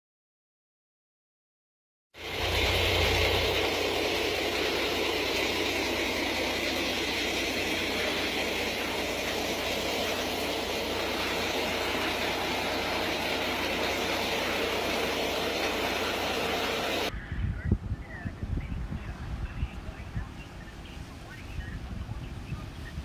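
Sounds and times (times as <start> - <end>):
rushing floodwater roar: 2.2 - 17.1, 19.4 - 23.0.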